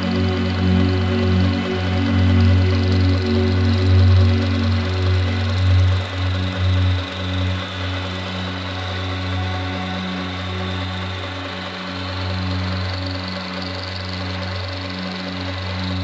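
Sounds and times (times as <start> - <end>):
milling machine motor hum: 0.0 - 16.0.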